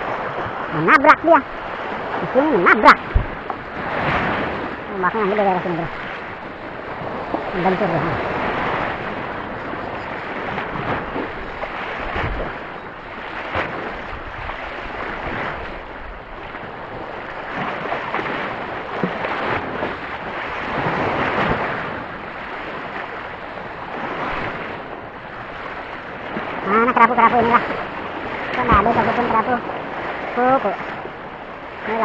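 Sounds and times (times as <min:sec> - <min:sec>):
surf breaking over rocky reef: 0:00.0 - 0:32.0
wind on microphone: 0:00.0 - 0:32.0.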